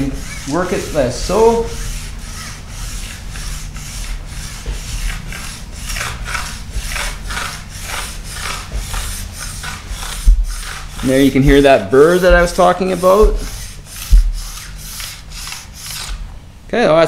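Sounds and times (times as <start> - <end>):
stone rasping on ski edge: 1.6 - 16.2.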